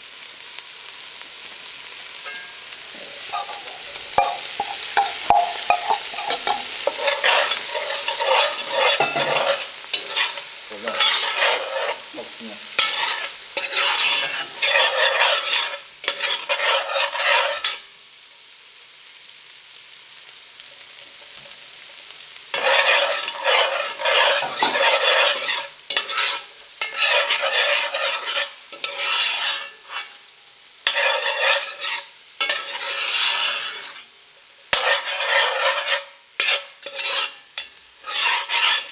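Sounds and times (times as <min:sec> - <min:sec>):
food sizzling in butter: 0:00.0 - 0:38.9
spoon scraping a pan: 0:02.0 - 0:17.9, 0:20.9 - 0:38.9.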